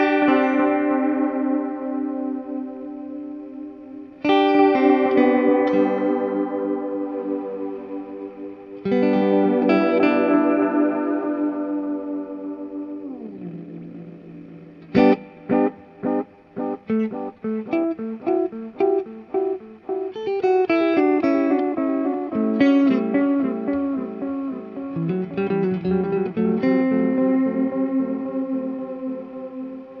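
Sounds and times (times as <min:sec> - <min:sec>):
electric guitar with delay: 0:00.0 - 0:30.0.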